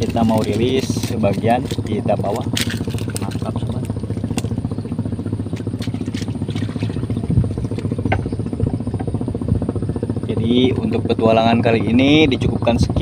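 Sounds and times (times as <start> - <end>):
small engine puttering: 0.0 - 12.2.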